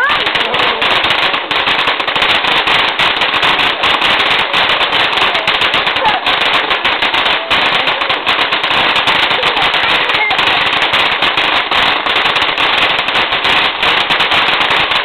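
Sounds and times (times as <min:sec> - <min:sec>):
firework crackling: 0:00.0 - 0:15.0.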